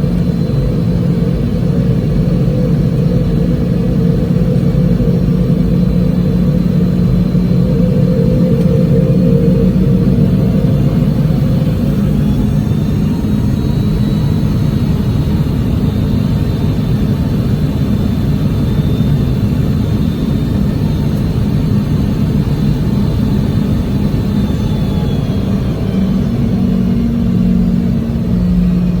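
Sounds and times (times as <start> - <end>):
jet engines rumbling inside cabin: 0.0 - 29.0.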